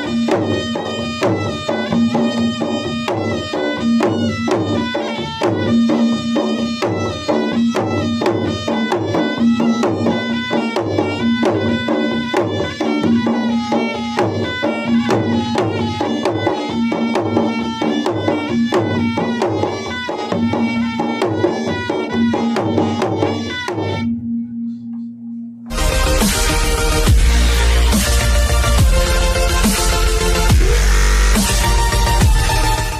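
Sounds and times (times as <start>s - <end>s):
drums beaten in fast rhythm: 0.0s - 24.1s, 25.7s - 32.9s.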